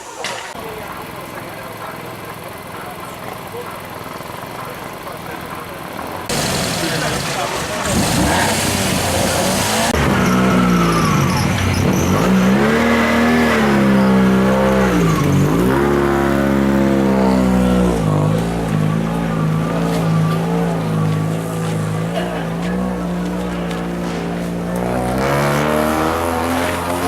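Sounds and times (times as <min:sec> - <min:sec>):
racing car engine revving: 0:00.5 - 0:27.0.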